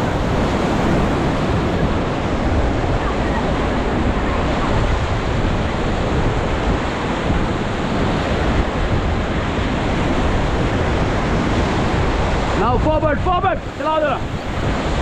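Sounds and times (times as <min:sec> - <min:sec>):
rushing whitewater: 0:00.0 - 0:15.0
wind on microphone: 0:00.0 - 0:15.0.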